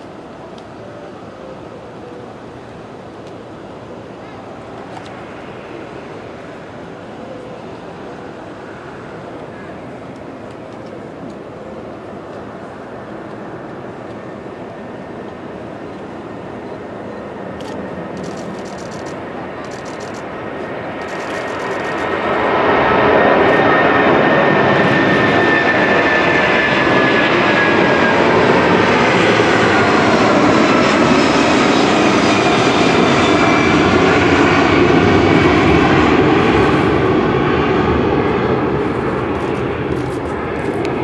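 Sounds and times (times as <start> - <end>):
jet airliner taking off: 0.0 - 41.0
jet engine whine: 0.0 - 41.0.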